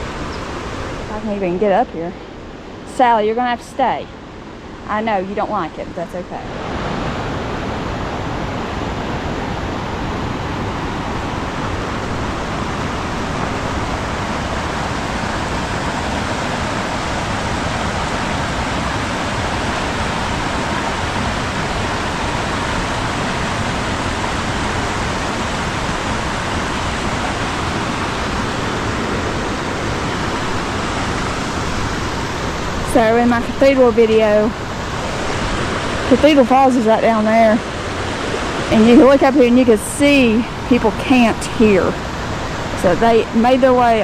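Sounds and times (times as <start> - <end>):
river rushing over rocks: 4.3 - 44.0.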